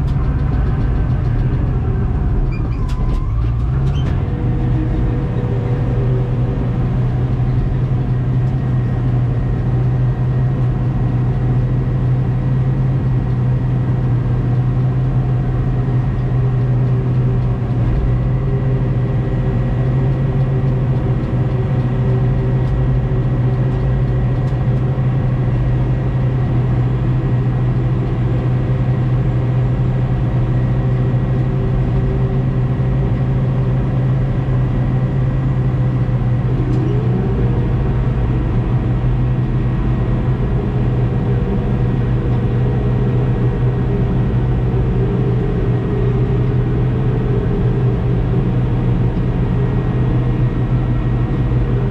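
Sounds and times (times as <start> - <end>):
diesel engine hum: 0.0 - 51.9.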